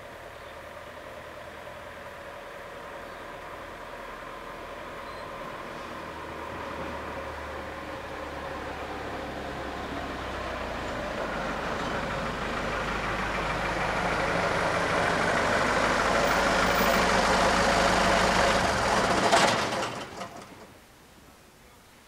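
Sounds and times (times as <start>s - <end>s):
train approaching: 0.0s - 20.8s.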